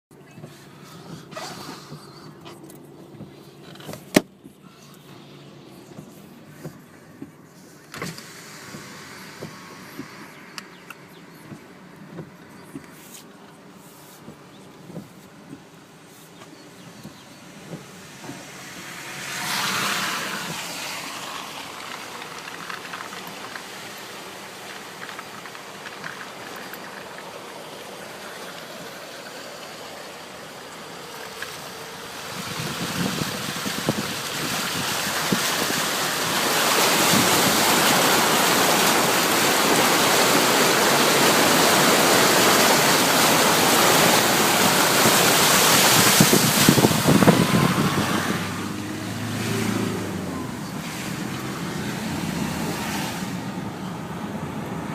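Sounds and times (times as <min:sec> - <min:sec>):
water rushing and splashing: 0:04.0 - 0:54.9.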